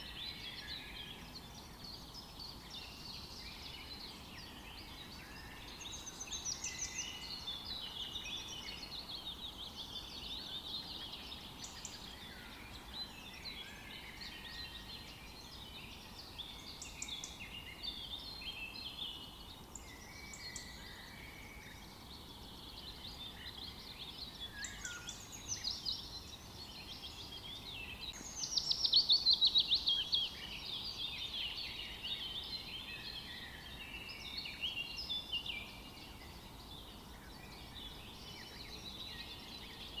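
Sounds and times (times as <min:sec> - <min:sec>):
faint steady hiss: 0:00.0 - 0:40.0
songbirds singing: 0:00.0 - 0:40.0.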